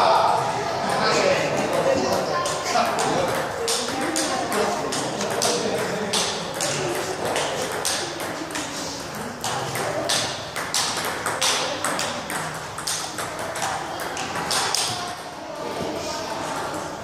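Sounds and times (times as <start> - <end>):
people talking: 0.0 - 17.0
table tennis balls clicking: 0.8 - 15.4.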